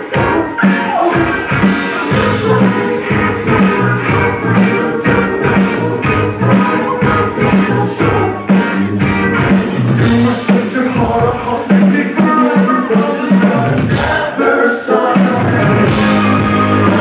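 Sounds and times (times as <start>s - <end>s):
bass guitar: 0.0s - 14.4s, 15.2s - 17.0s
electric guitars: 0.0s - 14.4s, 15.0s - 17.0s
steady drum beat: 0.0s - 14.4s, 15.0s - 17.0s.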